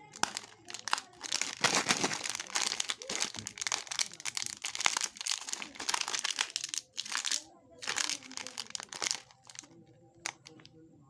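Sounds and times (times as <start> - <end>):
plastic wrapper crinkling: 0.0 - 10.7.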